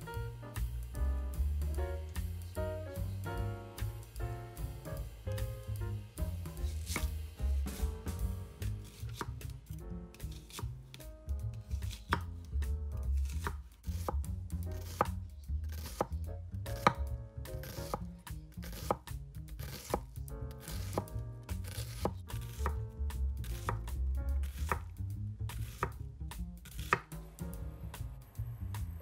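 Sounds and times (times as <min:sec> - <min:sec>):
light background music: 0:00.0 - 0:29.0
knife chopping on cutting board: 0:03.0 - 0:27.2.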